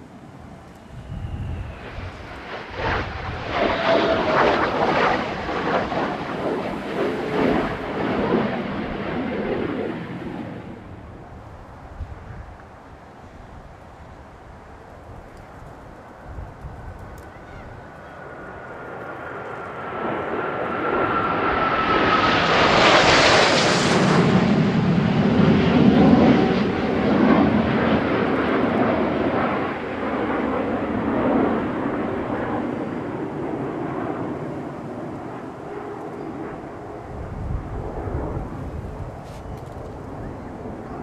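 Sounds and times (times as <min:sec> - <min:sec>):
jet aircraft passing by: 0:00.0 - 0:41.0.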